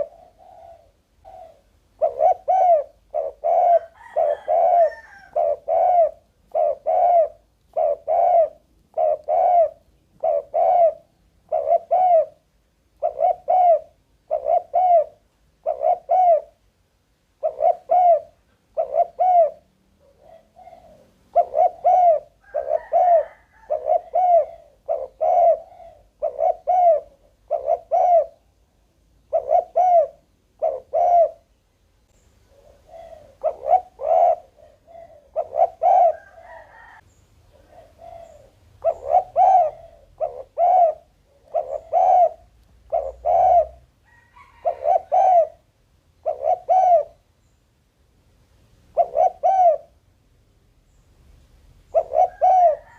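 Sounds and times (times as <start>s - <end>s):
dove cooing: 0.0s - 16.7s, 17.4s - 31.6s, 32.4s - 47.2s, 48.9s - 50.0s, 51.8s - 52.9s.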